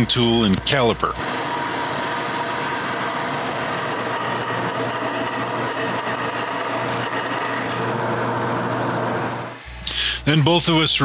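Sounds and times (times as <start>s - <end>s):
tool scraping spinning wood: 0.0s - 9.5s
wood lathe humming: 0.0s - 9.7s.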